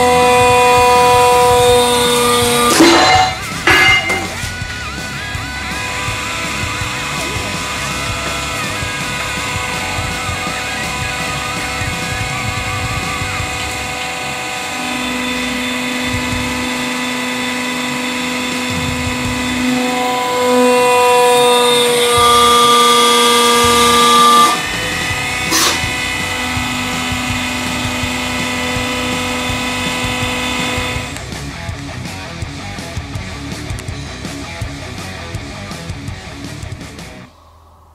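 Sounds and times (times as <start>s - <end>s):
hydraulic press motor whining: 0.0s - 31.3s.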